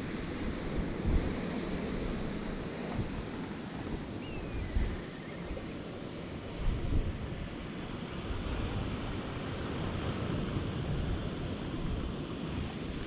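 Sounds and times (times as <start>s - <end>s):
sea surf: 0.0s - 13.0s
wind gusting on microphone: 0.0s - 13.0s.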